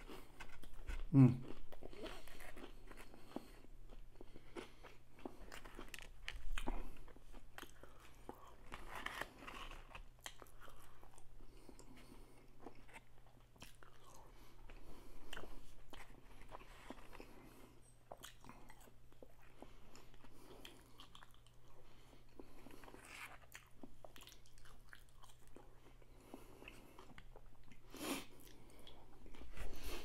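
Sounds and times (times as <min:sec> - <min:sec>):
crunchy chewing and mouth smacks: 0:00.0 - 0:30.0.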